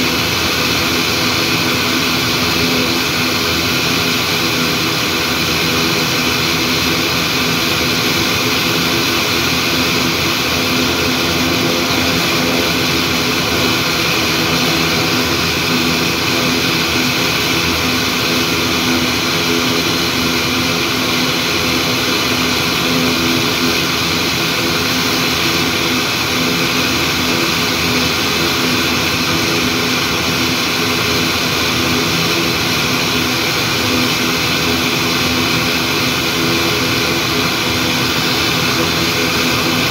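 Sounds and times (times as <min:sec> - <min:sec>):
turboprop engine running: 0:00.0 - 0:39.9.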